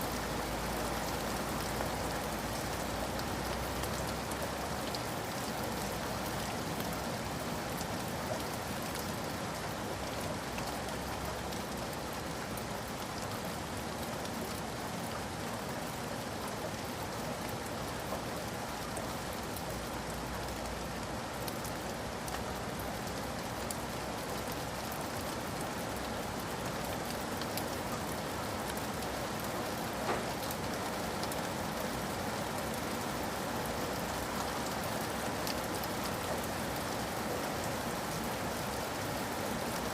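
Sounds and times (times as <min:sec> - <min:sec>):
rain hiss on a surface: 0:00.0 - 0:39.9.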